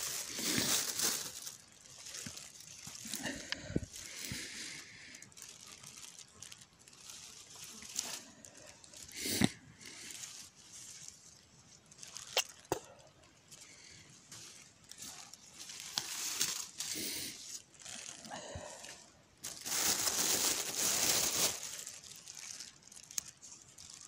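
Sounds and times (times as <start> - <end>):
leaves and undergrowth rustling: 0.0 - 24.0.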